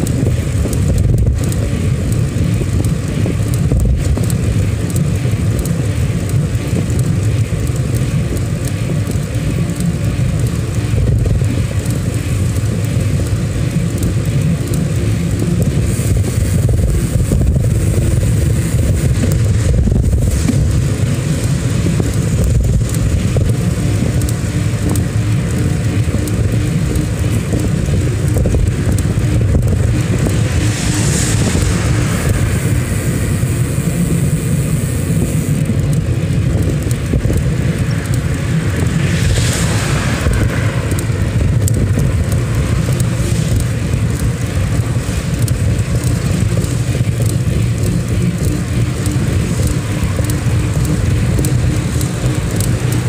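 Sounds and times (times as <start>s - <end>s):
vehicles passing with hiss: 0.0s - 53.0s
wind and road noise rumble: 0.0s - 53.0s.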